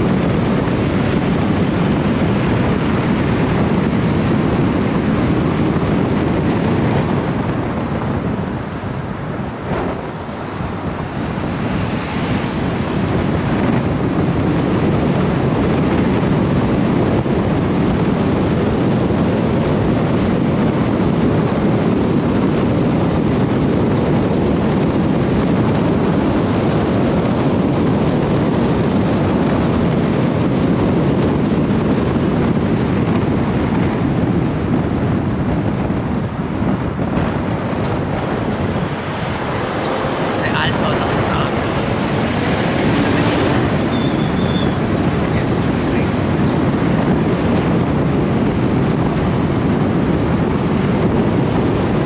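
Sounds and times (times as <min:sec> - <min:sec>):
wind and road noise: 0:00.0 - 0:52.0
wind buffeting microphone: 0:00.0 - 0:52.0.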